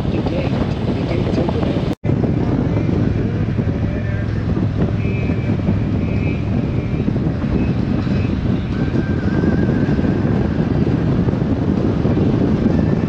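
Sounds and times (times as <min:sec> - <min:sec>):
motorcycle engine hum: 0:00.0 - 0:13.0
wind rush on microphone: 0:00.0 - 0:13.0.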